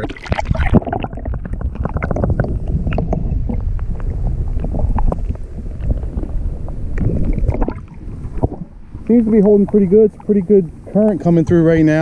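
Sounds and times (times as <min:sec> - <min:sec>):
water lapping against hull: 0:00.0 - 0:12.0
wind rumbling on microphone: 0:00.0 - 0:12.0.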